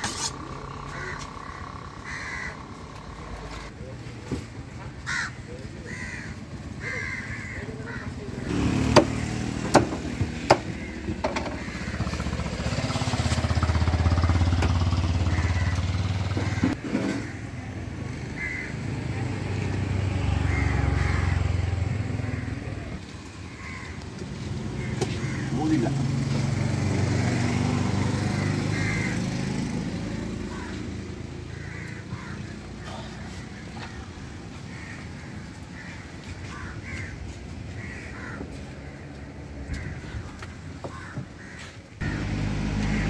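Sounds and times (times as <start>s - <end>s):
motor vehicles passing: 0.0s - 43.0s
crows cawing: 0.7s - 3.6s, 4.7s - 17.5s, 18.2s - 19.2s, 20.1s - 26.3s, 28.1s - 43.0s.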